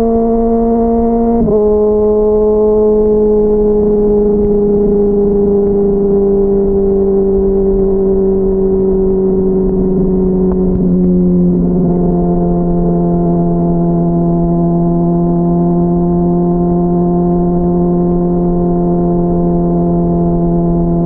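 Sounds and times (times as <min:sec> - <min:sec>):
muffled motorcycle engine running: 0:00.0 - 0:21.0.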